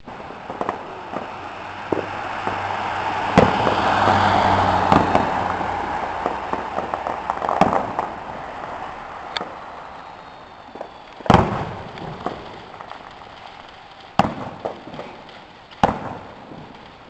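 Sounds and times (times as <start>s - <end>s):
fireworks crackling: 0.0s - 17.0s
fireworks pops and bangs: 0.0s - 17.0s.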